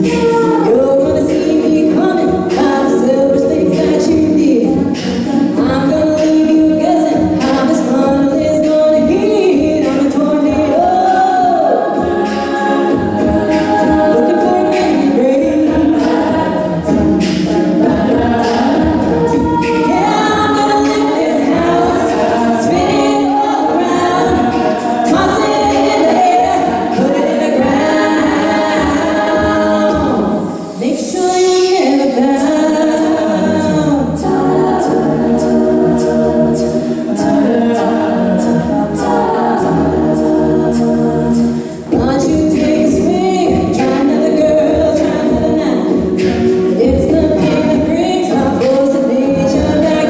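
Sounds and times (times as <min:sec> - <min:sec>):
beatboxing: 0:00.0 - 0:50.0
lead voice singing: 0:00.0 - 0:50.0
women singing close harmony: 0:00.0 - 0:50.0.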